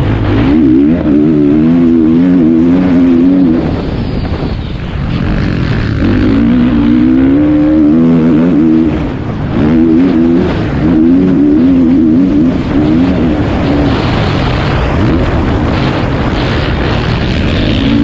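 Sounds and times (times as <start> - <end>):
motocross bike engine revving: 0.0 - 4.0, 4.8 - 18.0.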